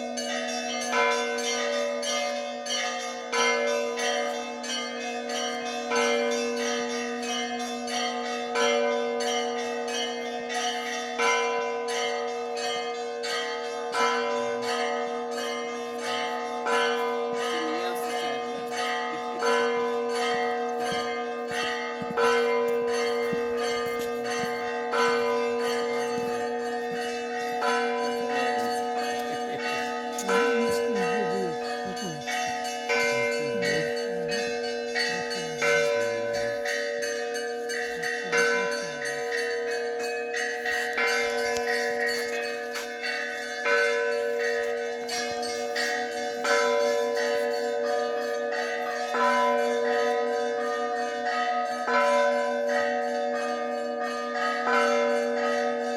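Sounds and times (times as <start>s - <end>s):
large bells ringing: 0.0s - 55.9s
small church bells ringing: 0.0s - 55.9s.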